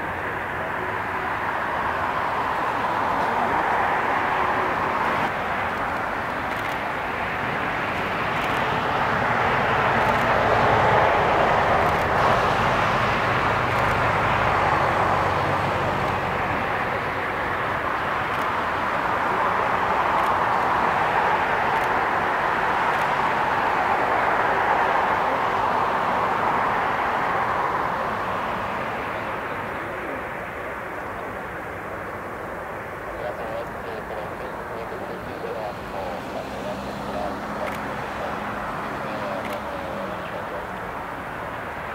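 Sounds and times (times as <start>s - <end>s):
distant jet engines: 0.0s - 41.9s.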